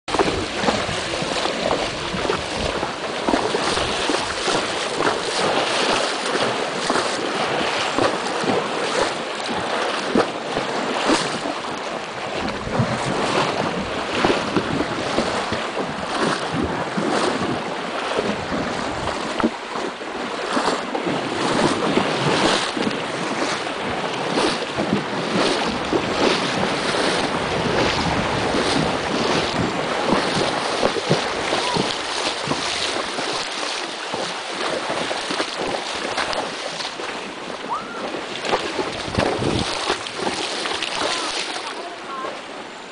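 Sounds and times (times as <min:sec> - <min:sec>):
wind on microphone: 0:00.1 - 0:42.3
horses splashing through water: 0:00.1 - 0:42.9
rushing water: 0:00.1 - 0:42.9.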